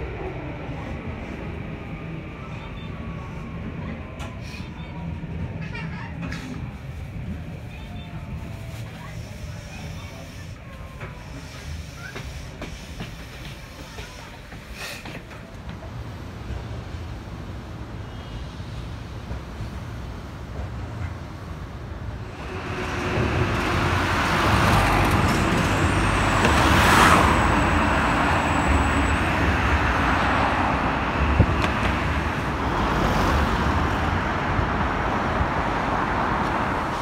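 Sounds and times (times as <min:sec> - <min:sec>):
train rumbling over steel bridge: 0:00.0 - 0:37.0.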